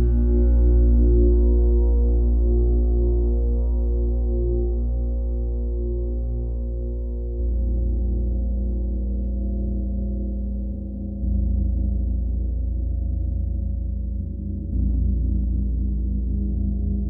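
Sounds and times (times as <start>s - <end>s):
gong with deep sustained tones: 0.0s - 17.0s.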